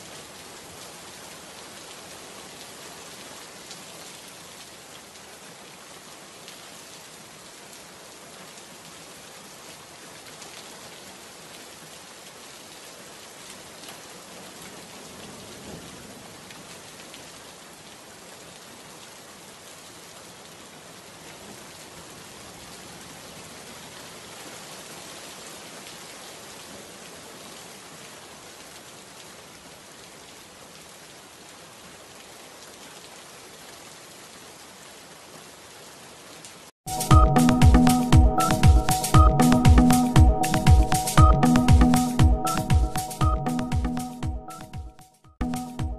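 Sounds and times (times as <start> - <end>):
heavy rain on wet pavement: 0.0 - 43.1.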